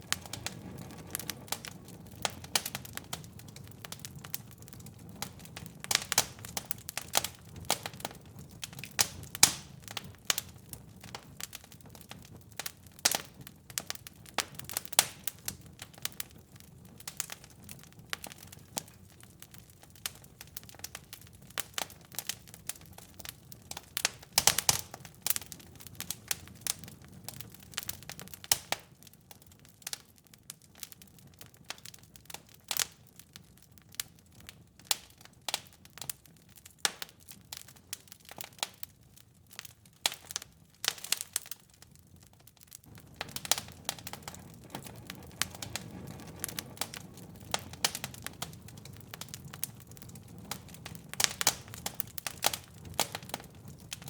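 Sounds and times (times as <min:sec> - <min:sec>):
fire crackling and popping: 0:00.0 - 0:54.0
flames rumbling: 0:00.0 - 0:54.0.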